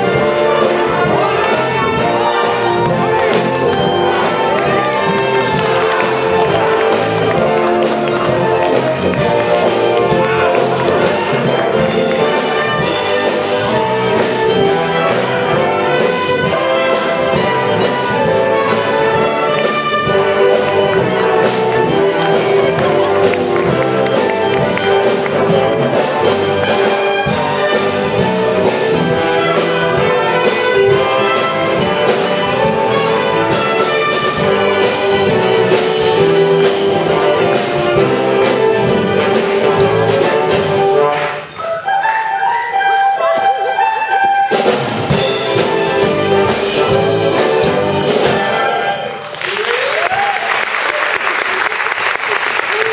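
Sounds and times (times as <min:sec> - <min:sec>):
wind band playing: 0:00.0 - 0:52.9.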